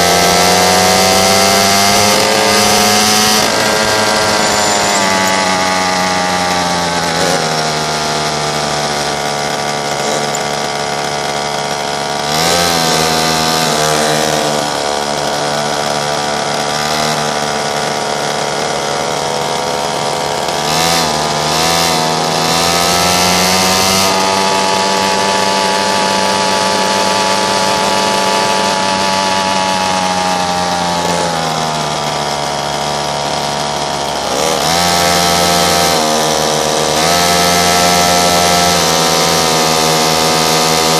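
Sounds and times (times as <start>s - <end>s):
small engine revving: 0.0s - 40.9s.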